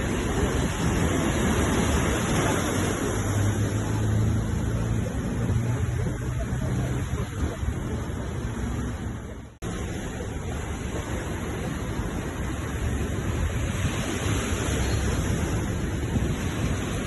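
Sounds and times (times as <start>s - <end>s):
waves breaking and washing: 0.0s - 17.0s.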